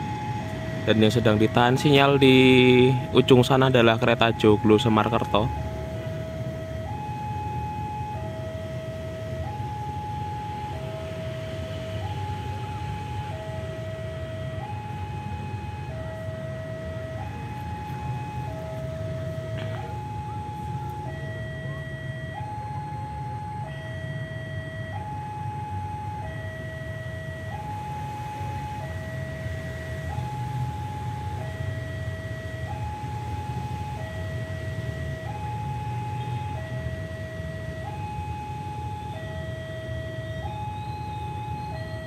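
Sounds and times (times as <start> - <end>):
two-tone warning siren: 0.0 - 42.0.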